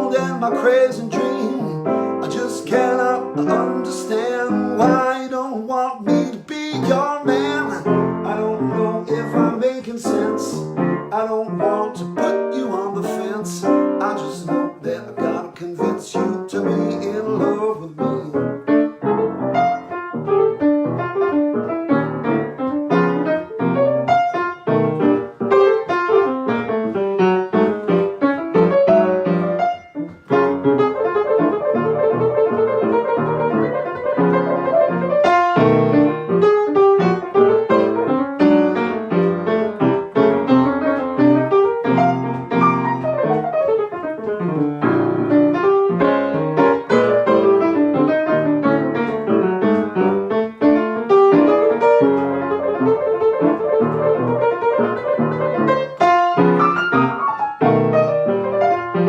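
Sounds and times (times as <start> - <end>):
solo jazz piano: 0.0 - 59.0.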